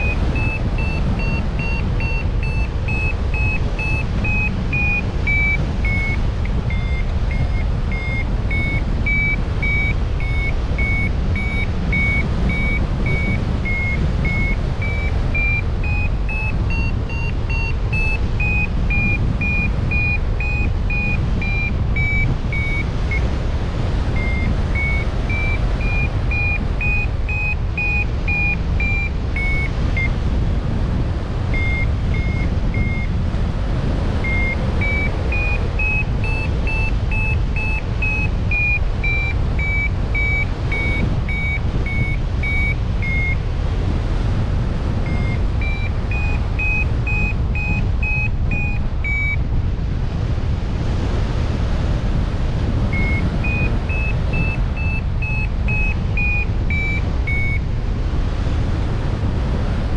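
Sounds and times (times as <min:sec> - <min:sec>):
wind on microphone: 0:00.0 - 0:59.9.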